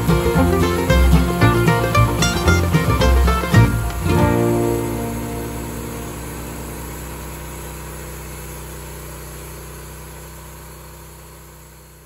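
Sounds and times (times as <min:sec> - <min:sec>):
sawmill engine drone: 0:00.0 - 0:11.6.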